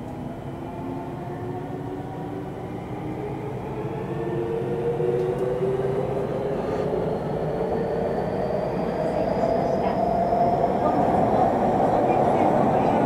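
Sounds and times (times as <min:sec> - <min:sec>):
train rumbling running noise: 0:00.0 - 0:13.0.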